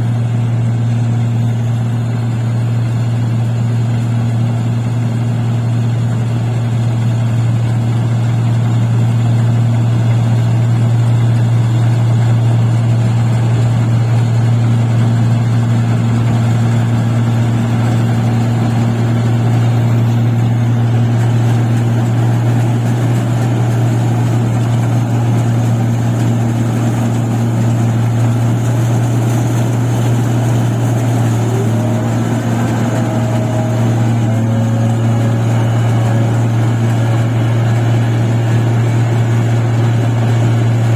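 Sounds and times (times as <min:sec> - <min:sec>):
machine engine droning: 0:00.0 - 0:40.9.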